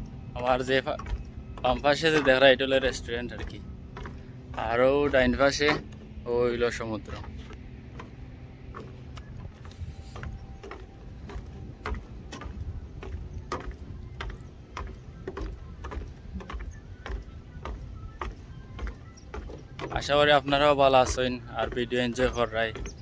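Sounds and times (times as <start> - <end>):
low rumble: 0.0 - 20.5
footsteps on pavement: 0.0 - 23.0.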